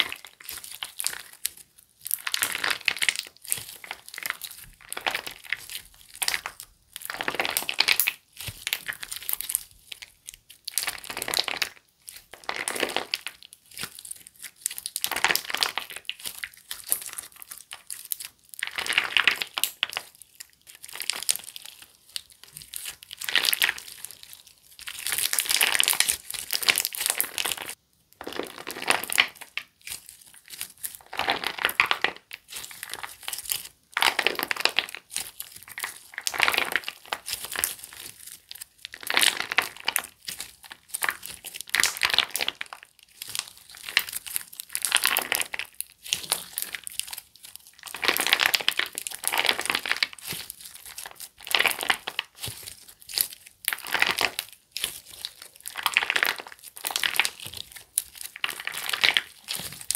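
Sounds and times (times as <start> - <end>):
slime crackling and popping: 0.0 - 59.9.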